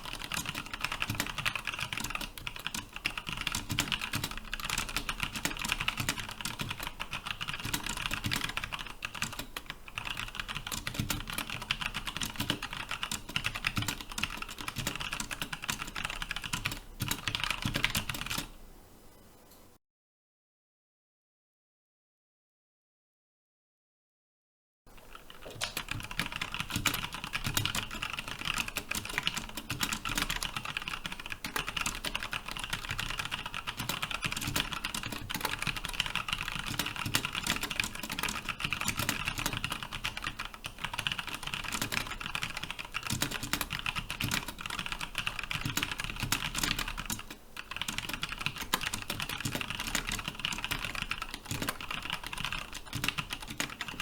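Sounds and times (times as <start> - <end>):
mechanical keyboard typing: 0.0 - 18.5, 25.0 - 54.0.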